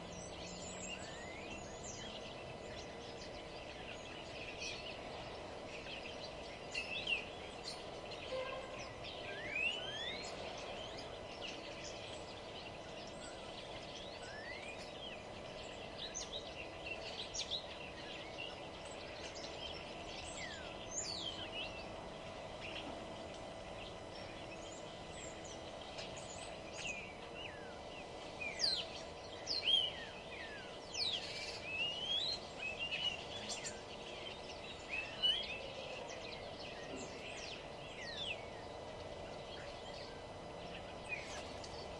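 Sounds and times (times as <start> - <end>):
low background hum: 0.0 - 41.9
songbirds chirping and singing: 0.0 - 41.9.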